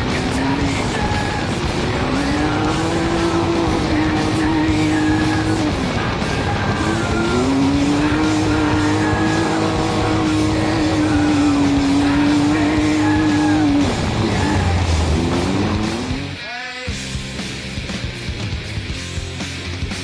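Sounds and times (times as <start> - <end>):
race vehicle engine revving: 0.0 - 16.4
background music: 0.0 - 20.0.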